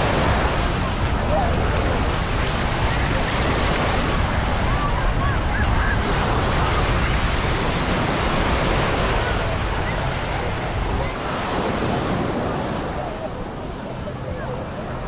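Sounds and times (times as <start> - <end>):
waves washing onto beach: 0.0 - 15.0
wind rumbling on microphone: 0.0 - 15.0.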